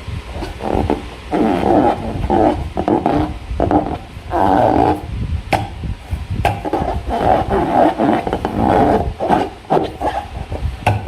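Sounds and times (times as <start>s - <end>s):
rubber balloon rasping: 0.0s - 11.0s
slime squelching: 0.3s - 11.0s.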